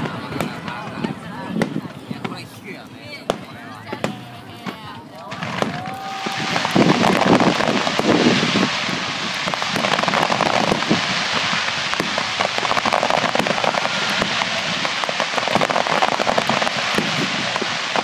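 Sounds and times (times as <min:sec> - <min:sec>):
deep fireworks booms: 0:00.0 - 0:18.0
fireworks crackling: 0:00.0 - 0:18.0.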